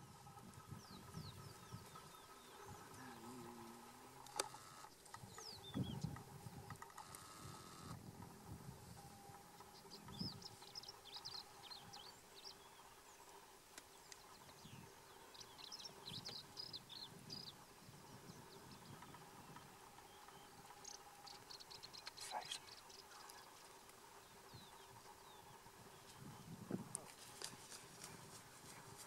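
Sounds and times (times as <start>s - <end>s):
faint steady hum: 0.0s - 29.0s
high birds chirping: 0.4s - 8.0s, 8.8s - 29.0s.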